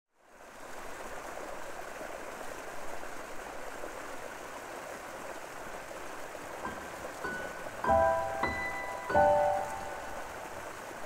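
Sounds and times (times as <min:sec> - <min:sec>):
river water rushing: 0:00.2 - 0:11.0.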